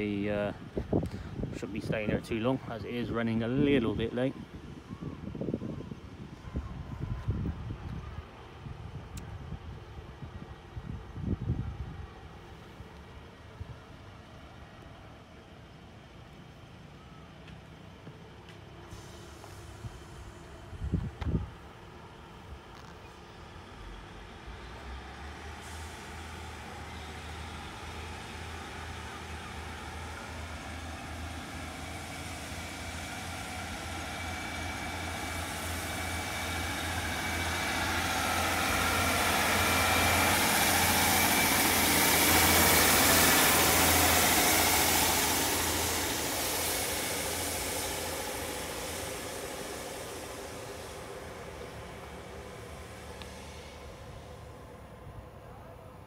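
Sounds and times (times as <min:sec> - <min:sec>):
diesel train engines under power: 0:00.0 - 0:56.0
train wheel noise: 0:00.0 - 0:56.0.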